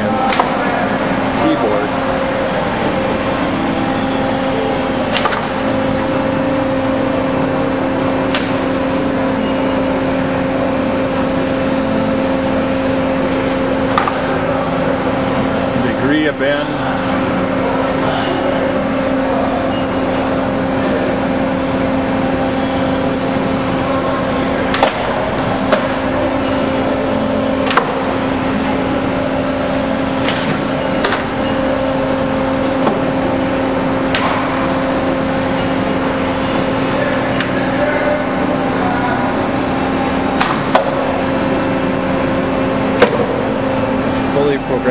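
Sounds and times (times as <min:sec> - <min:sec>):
hydraulic pump hum: 0:00.0 - 0:44.9.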